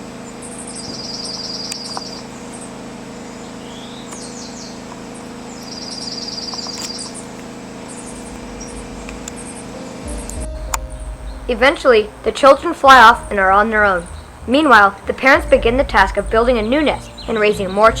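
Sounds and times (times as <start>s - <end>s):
steady low hum: 0.0s - 18.0s
bird trilling: 0.3s - 18.0s.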